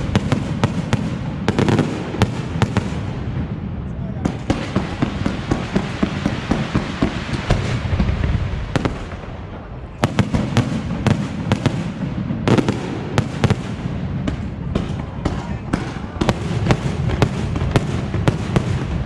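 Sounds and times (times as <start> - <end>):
fireworks crackling and banging: 0.0 - 19.0
sharp firework bursts: 0.0 - 19.0.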